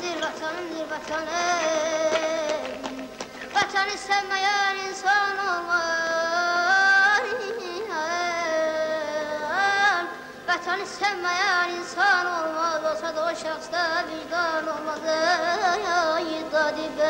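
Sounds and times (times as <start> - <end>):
child singing with throat trills: 0.0 - 17.0.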